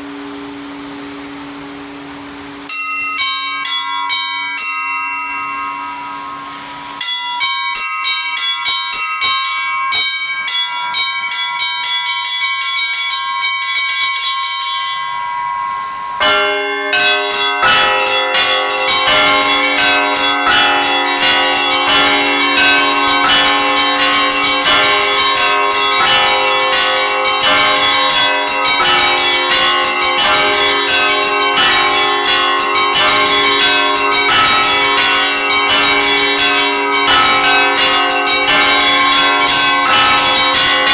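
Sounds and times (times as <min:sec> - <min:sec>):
large low bells ringing: 0:02.0 - 0:40.9
small high bells chiming: 0:02.7 - 0:40.9.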